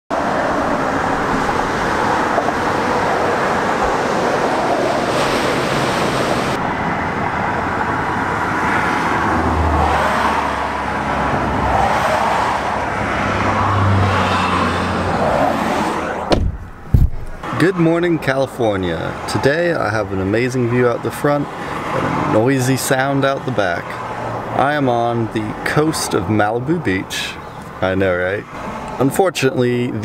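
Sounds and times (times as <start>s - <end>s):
road and tyre noise: 0.1s - 30.0s
vehicles passing close by: 0.1s - 30.0s.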